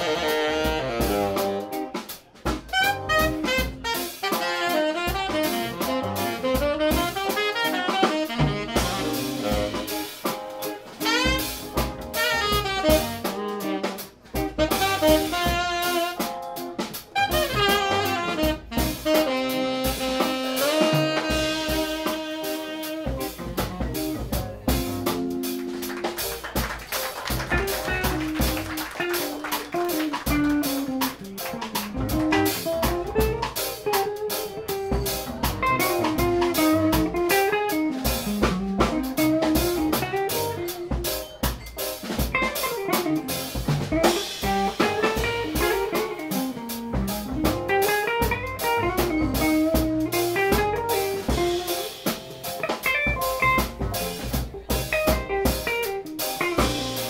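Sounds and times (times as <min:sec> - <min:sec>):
drum kit: 0:00.0 - 0:57.0
upright bass: 0:00.0 - 0:57.0.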